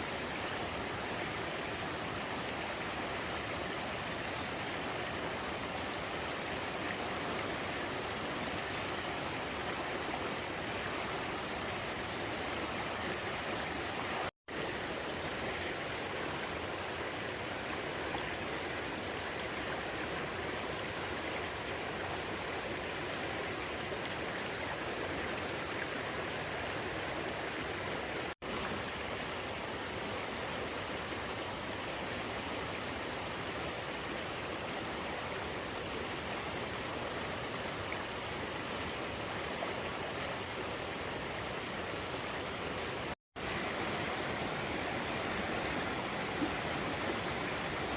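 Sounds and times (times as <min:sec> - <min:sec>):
running water: 0:00.0 - 0:47.9.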